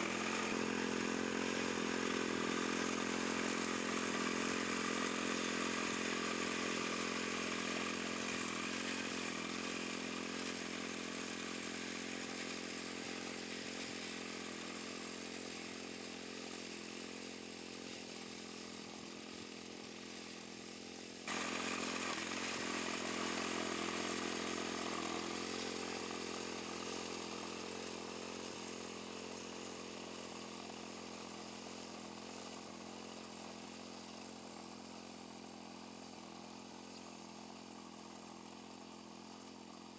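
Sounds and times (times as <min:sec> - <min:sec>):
mower engine cutting grass: 0:00.0 - 0:39.9.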